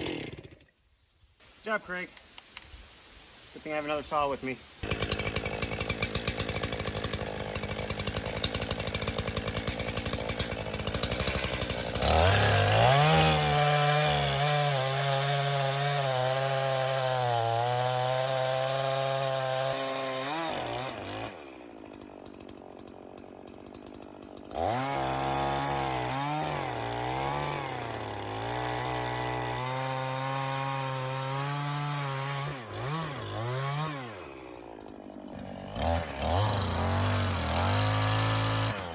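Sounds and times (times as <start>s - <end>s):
chainsaw cutting into log: 0.0s - 0.8s, 4.8s - 38.9s
chainsaw idling and revving: 0.0s - 0.8s, 4.2s - 38.9s.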